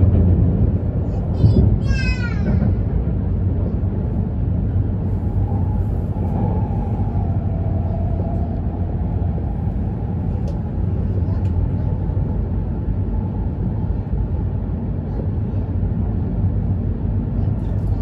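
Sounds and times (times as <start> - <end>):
train rumble inside passenger car: 0.0 - 18.0.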